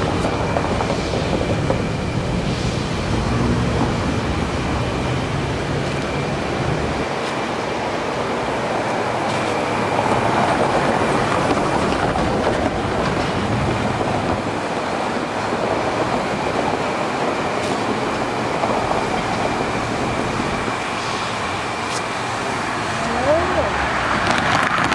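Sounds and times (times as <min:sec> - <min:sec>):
train rumbling past: 0:00.0 - 0:24.9.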